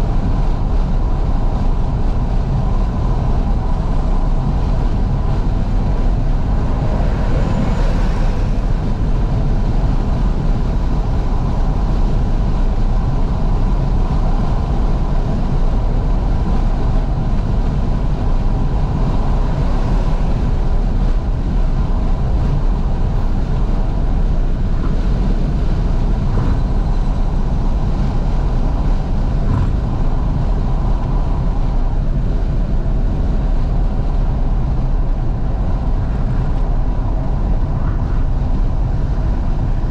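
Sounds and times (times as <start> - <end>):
car engine running: 0.0 - 39.9
road noise: 0.0 - 39.9
wind noise: 0.0 - 39.9.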